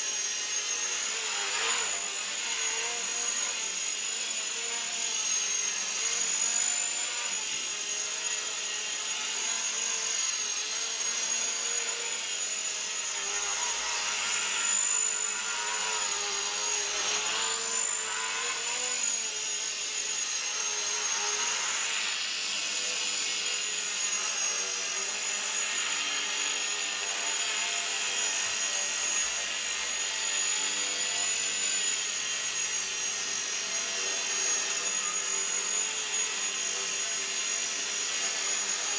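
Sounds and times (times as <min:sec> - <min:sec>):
rc helicopter high whine: 0:00.0 - 0:38.9.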